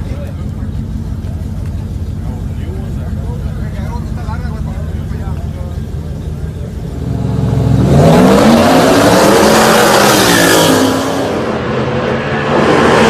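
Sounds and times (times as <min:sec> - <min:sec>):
racing car engines accelerating: 0:00.0 - 0:13.0.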